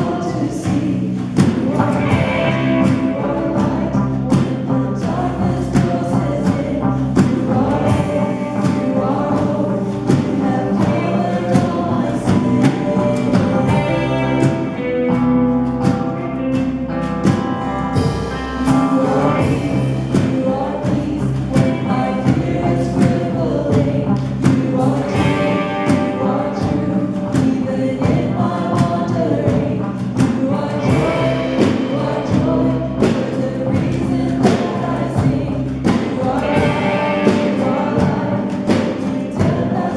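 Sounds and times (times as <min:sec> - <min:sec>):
band with steady beat: 0:00.0 - 0:39.9
group singing gospel song: 0:00.0 - 0:39.9.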